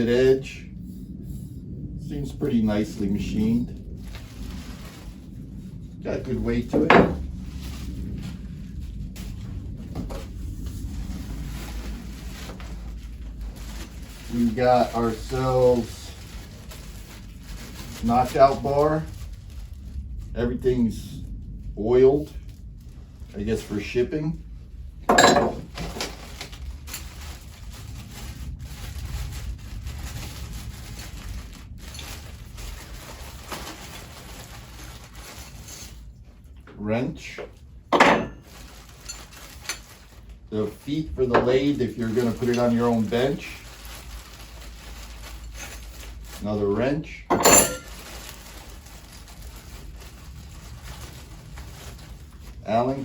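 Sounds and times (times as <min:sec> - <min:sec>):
steady low hum: 0:00.0 - 0:53.0
packing material rustling: 0:02.3 - 0:20.4, 0:24.8 - 0:36.6, 0:37.5 - 0:53.0.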